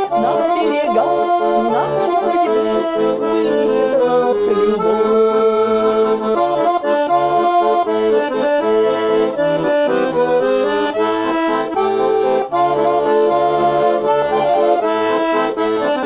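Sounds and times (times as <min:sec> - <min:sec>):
button accordion playing slow melody: 0:00.0 - 0:16.0.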